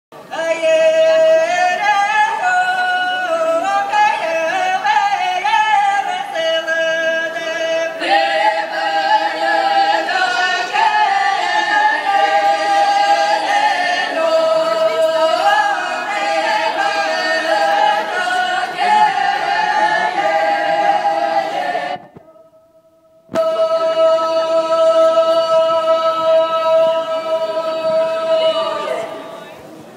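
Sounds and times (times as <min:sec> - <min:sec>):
women singing in unison: 0:00.3 - 0:22.3, 0:23.3 - 0:29.4.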